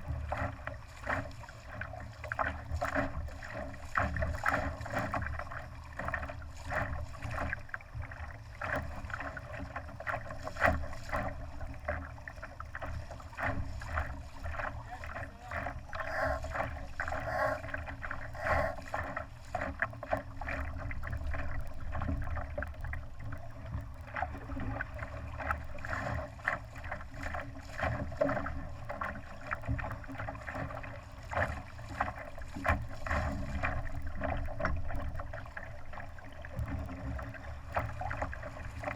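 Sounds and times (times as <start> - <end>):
water slapping against boat hull: 0.0 - 38.9.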